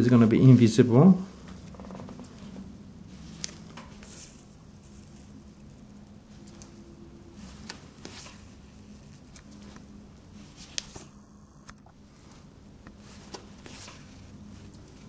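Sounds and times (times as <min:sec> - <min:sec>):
cloth rustling: 0:01.2 - 0:11.2, 0:11.9 - 0:15.0.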